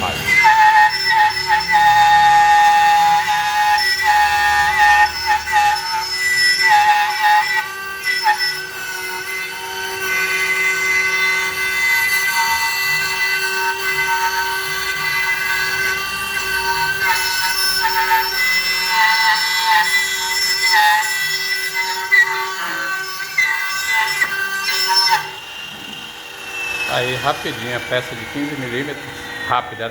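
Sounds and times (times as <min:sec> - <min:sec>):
router spindle whine: 0:00.0 - 0:29.9
stepper motors sliding tones: 0:00.0 - 0:29.9.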